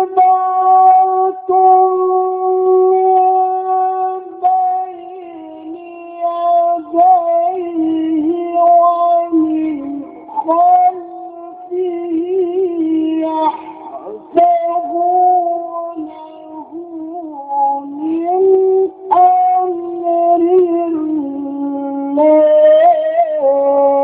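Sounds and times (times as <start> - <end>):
man chanting recitation: 0.0 - 24.0.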